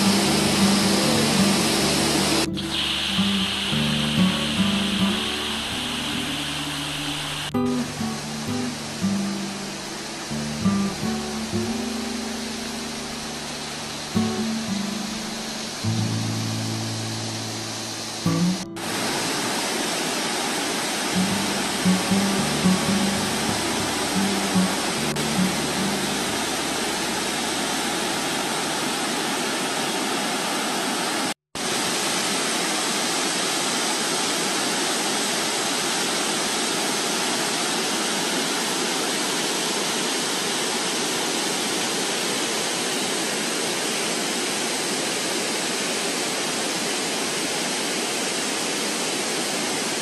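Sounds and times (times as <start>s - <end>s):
stream rushing over rapids: 0.0s - 50.0s.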